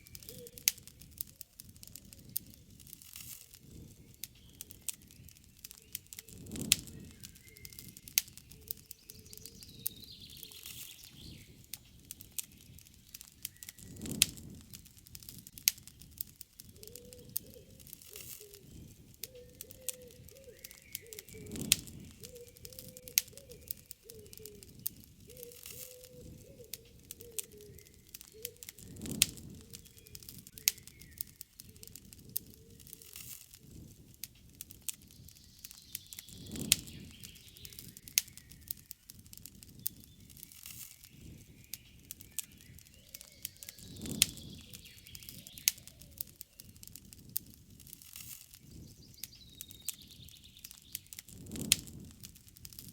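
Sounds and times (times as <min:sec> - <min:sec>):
birds chirping: 0:00.0 - 0:01.4, 0:03.6 - 0:14.6, 0:15.8 - 0:33.2, 0:35.0 - 0:47.0, 0:48.5 - 0:51.2
campfire wood crackling: 0:00.0 - 0:52.9.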